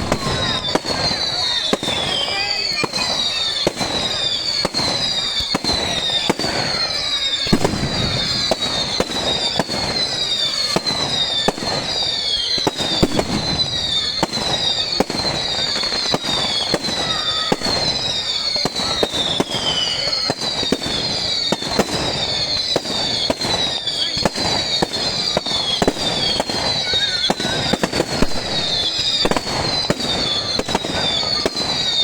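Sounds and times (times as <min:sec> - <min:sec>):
firework bangs and crackles: 0:00.0 - 0:32.0
firework whistles falling in pitch: 0:00.0 - 0:32.0.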